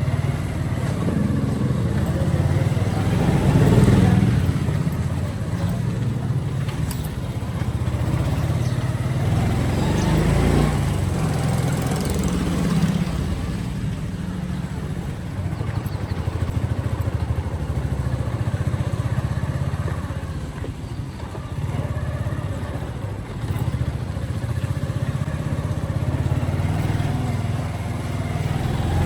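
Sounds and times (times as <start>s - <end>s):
motorcycle engine running: 0.0s - 29.0s
road and wind noise: 0.0s - 29.0s.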